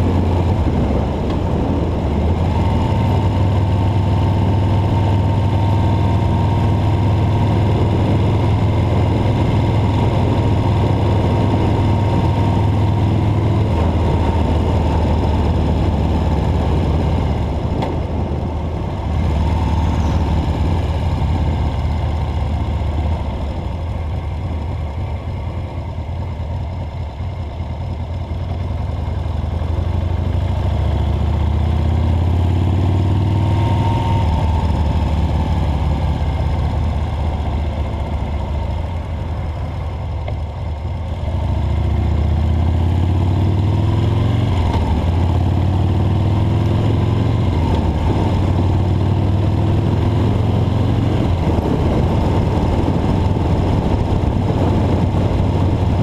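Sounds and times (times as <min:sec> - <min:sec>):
vehicle engine accelerating: 0:00.0 - 0:56.0.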